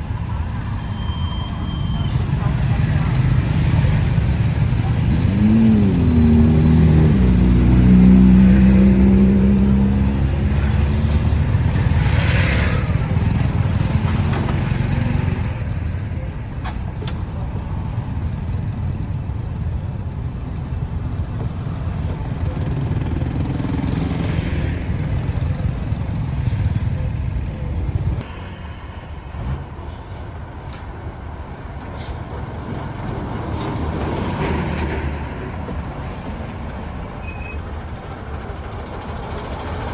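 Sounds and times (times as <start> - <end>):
vehicle engines: 0.0 - 39.9.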